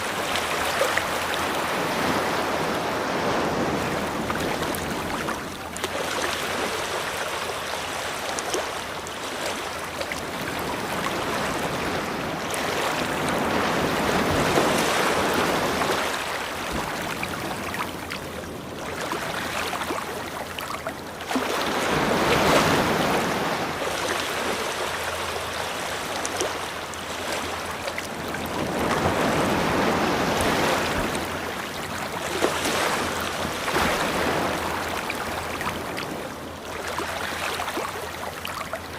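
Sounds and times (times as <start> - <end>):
ocean surf washing onto shore: 0.0 - 20.2, 21.1 - 37.9.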